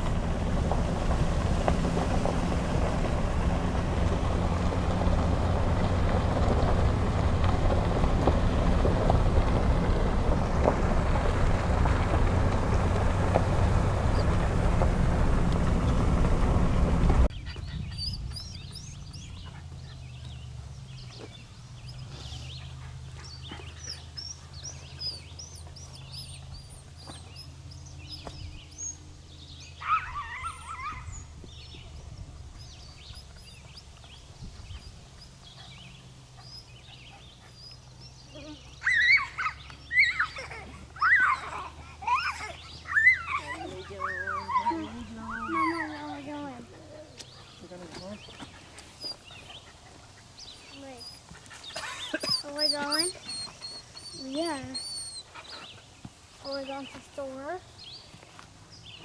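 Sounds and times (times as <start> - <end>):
small birds chirping: 0.0 - 59.0
vehicle engine rumble: 0.0 - 59.0.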